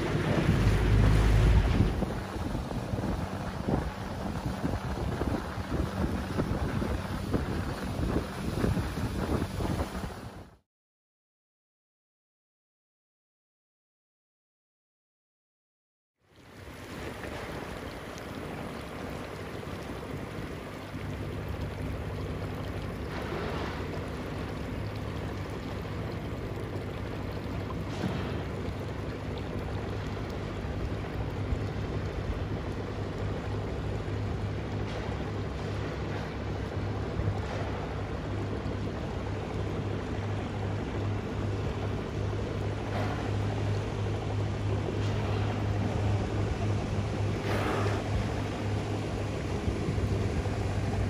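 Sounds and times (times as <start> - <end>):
boat engine humming: 0.0 - 10.6, 16.3 - 51.0
water noise: 0.0 - 10.6, 16.2 - 51.0.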